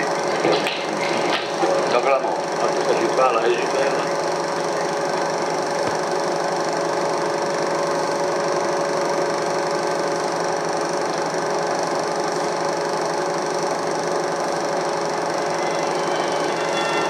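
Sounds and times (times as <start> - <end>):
film projector whirring and clattering: 0.0 - 17.0.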